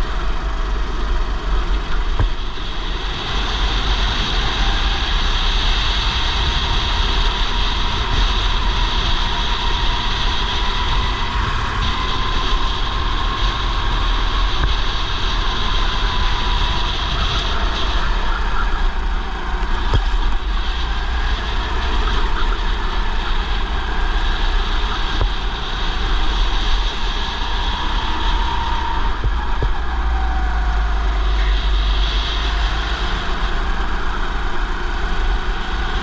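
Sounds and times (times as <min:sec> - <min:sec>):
racing kart engine: 0:00.0 - 0:36.0
wind rumble on microphone: 0:00.0 - 0:36.0.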